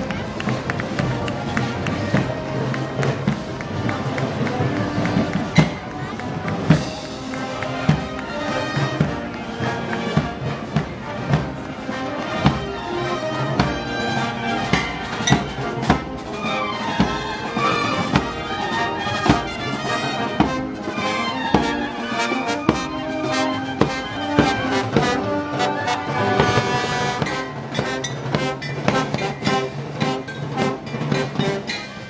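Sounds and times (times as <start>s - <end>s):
drum and cymbal strikes: 0.0s - 32.0s
trombones and trumpets: 0.0s - 32.0s.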